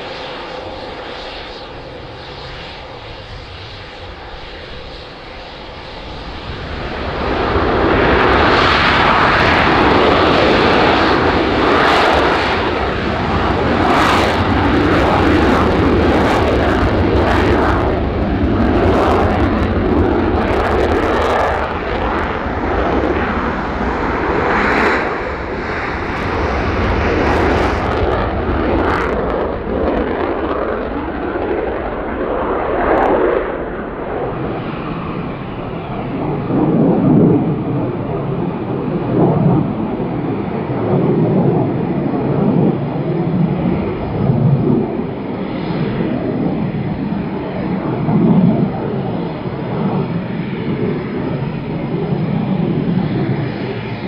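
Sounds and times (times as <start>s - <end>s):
jet engines with afterburner: 0.0s - 54.0s.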